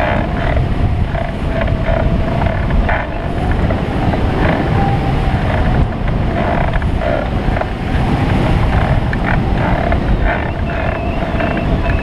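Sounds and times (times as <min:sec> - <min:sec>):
airframe creaks and rattles: 0:00.0 - 0:12.0
wind buffeting microphone: 0:00.0 - 0:12.0.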